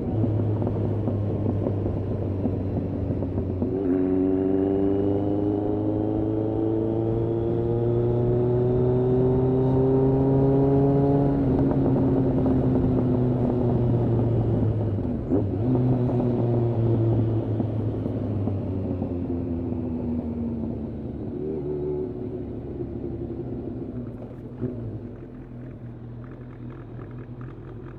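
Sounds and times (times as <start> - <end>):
motorcycle engine under throttle: 0.0 - 27.9.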